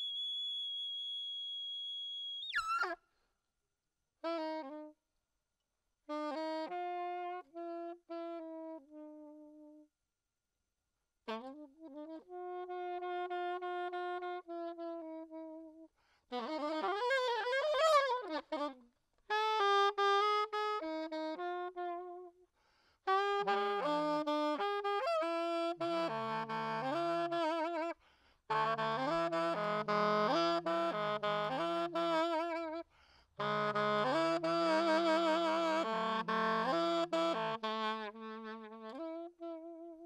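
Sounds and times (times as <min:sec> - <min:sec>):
solo saxophone improvisation: 0:00.0 - 0:00.4, 0:04.2 - 0:05.0, 0:06.0 - 0:09.9, 0:11.3 - 0:40.0.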